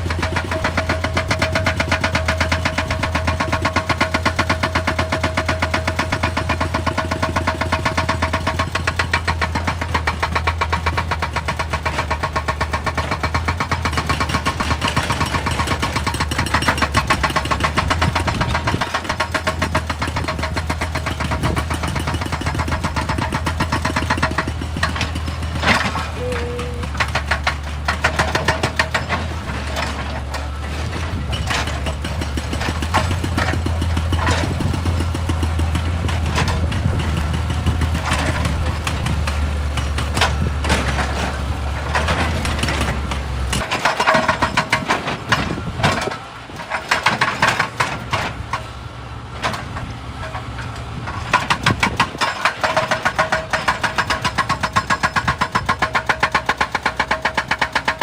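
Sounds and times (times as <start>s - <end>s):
excavator diesel engine running: 0.0s - 58.0s
rapid knocking and clatter: 0.1s - 26.1s, 26.8s - 30.1s, 31.3s - 46.1s, 51.1s - 58.0s.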